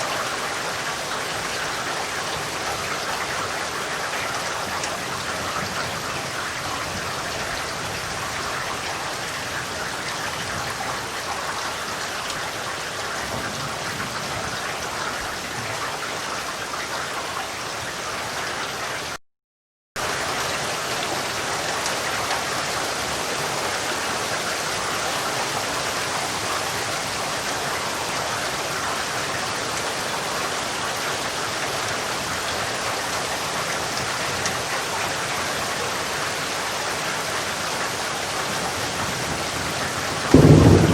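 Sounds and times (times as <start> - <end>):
steady rain: 0.0 - 19.2, 20.0 - 40.9.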